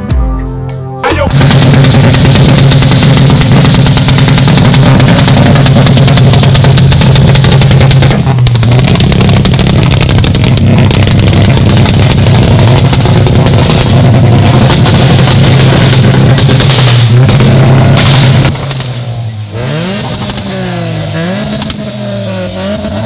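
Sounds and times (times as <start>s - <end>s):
loud engine running: 1.1s - 23.0s.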